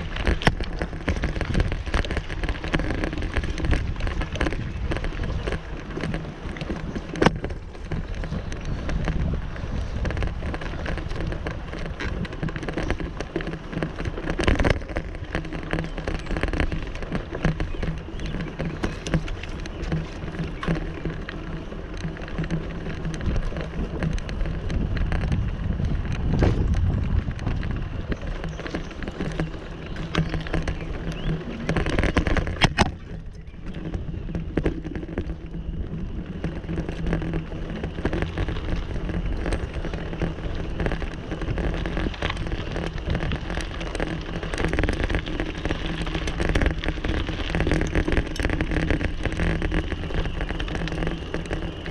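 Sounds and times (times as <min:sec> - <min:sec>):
bicycle rattling on trail: 0:00.0 - 0:51.9.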